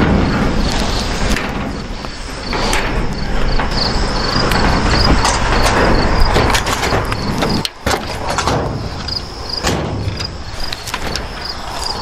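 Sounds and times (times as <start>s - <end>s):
crickets chirping: 0.0s - 12.0s
wire mesh rattling and scraping: 0.0s - 12.0s.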